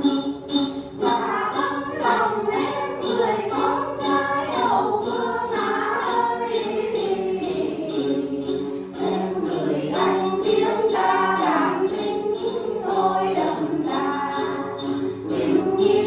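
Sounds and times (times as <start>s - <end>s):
music with jingling beat: 0.0s - 16.0s
voices singing together: 0.0s - 16.0s.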